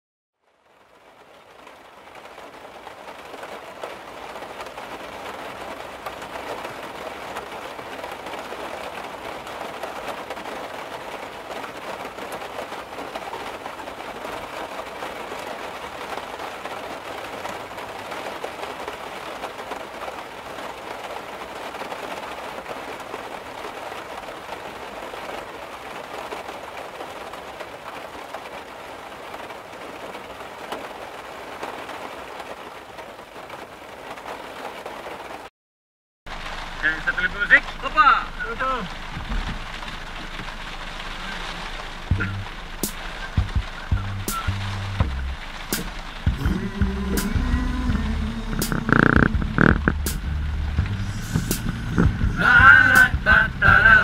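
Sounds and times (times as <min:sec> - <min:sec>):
rain on pavement and a car: 0:00.4 - 0:35.5, 0:36.3 - 0:54.0.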